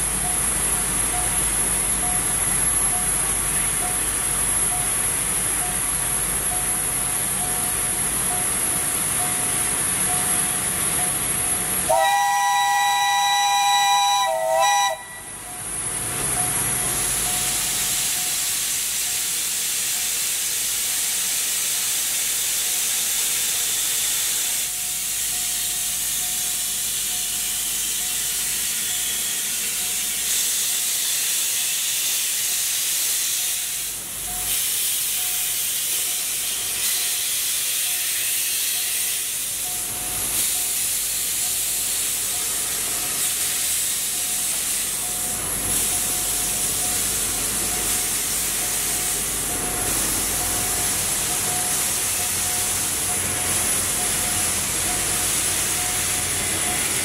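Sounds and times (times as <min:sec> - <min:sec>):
steam locomotive venting steam: 0:00.0 - 0:57.0.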